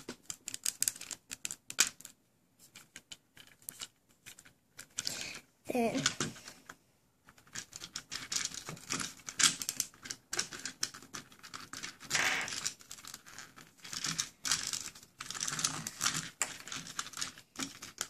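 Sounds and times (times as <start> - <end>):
plastic toy clicks and rattles: 0.0 - 2.2, 2.8 - 18.0.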